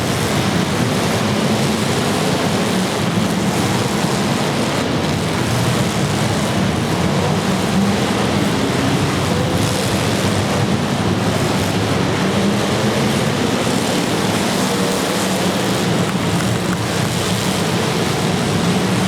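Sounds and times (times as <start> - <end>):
car engines running together: 0.0 - 19.0.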